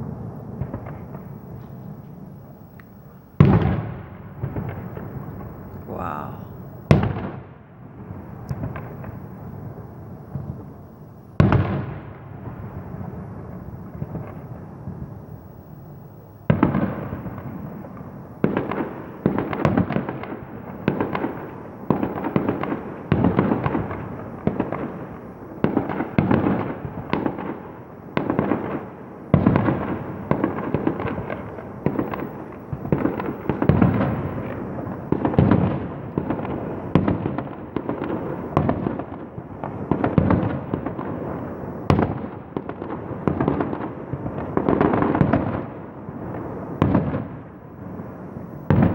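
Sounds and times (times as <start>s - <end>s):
fireworks banging: 0.0s - 48.9s.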